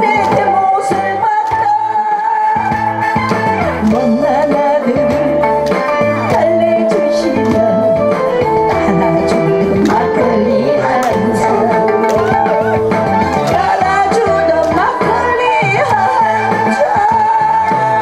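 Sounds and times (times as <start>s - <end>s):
backing track with guitar: 0.0s - 18.0s
woman singing into microphone: 0.0s - 18.0s.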